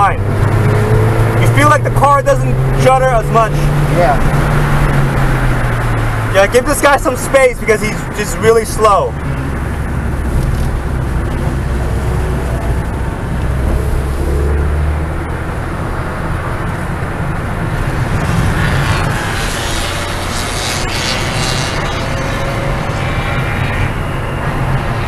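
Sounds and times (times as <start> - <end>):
car engine accelerating: 0.0 - 25.0
road noise inside cabin: 0.0 - 25.0.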